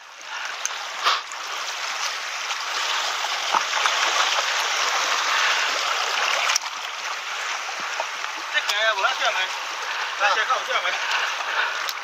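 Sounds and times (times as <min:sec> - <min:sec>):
seawater washing among rocks: 0:00.0 - 0:12.0
water splash: 0:00.0 - 0:12.0.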